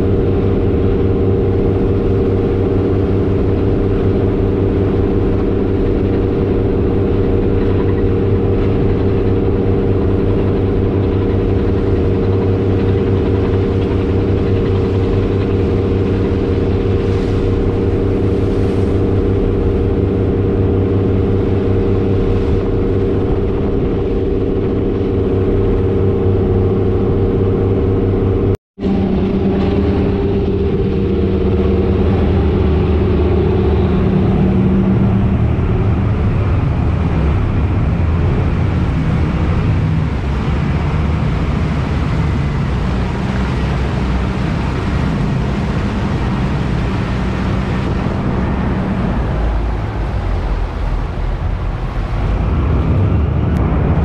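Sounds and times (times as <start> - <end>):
ferry engine droning: 0.0 - 54.0
water rushing from wake: 0.0 - 54.0.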